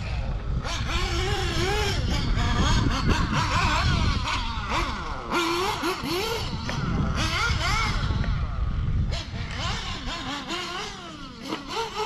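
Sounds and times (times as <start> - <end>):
steady low rumble: 0.0 - 10.1
model car engine revving: 0.0 - 12.0.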